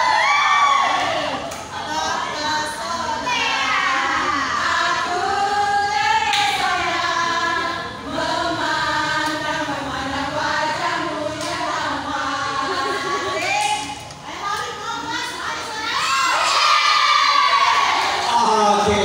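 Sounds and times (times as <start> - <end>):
women chanting a team cheer: 0.0 - 18.3.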